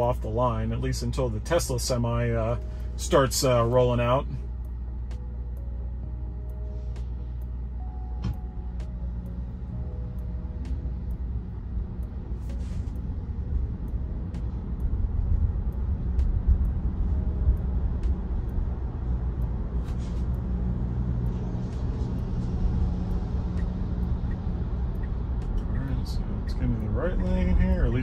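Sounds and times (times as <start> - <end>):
road and traffic rumble: 0.0 - 28.0.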